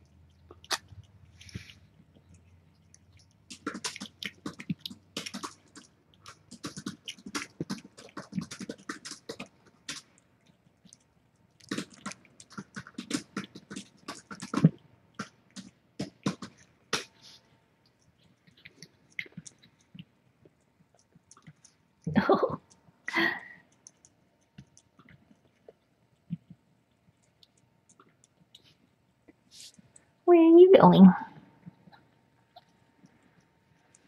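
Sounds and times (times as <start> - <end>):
cat licking and grooming kittens: 0.0 - 34.0.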